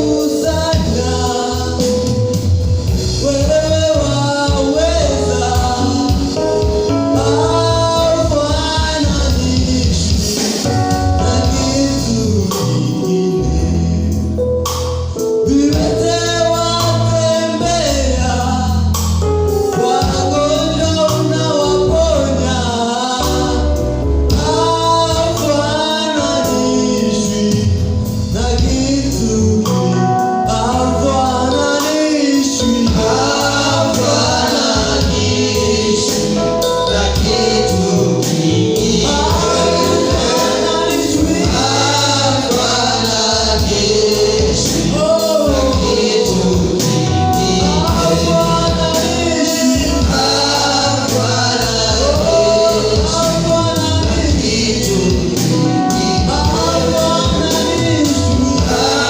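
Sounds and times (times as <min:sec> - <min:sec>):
gospel song with choir: 0:00.0 - 0:59.0.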